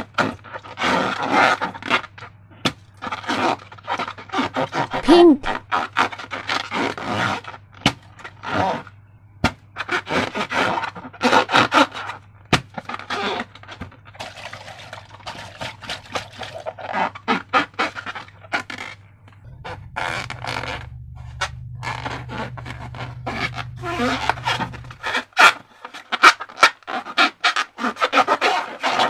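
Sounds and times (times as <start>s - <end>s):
slime squishing and scraping: 0.0s - 8.9s, 9.8s - 29.0s.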